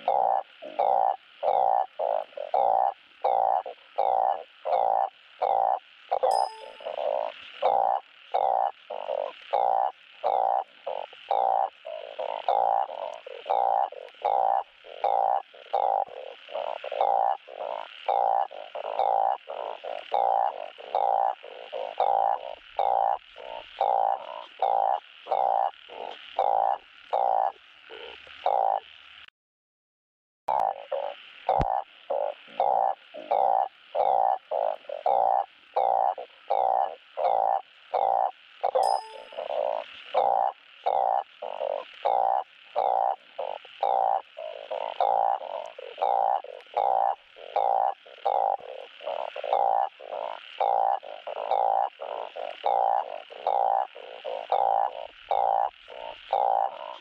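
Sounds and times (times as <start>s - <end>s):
frog croaking: 0.0s - 29.3s, 30.5s - 57.0s.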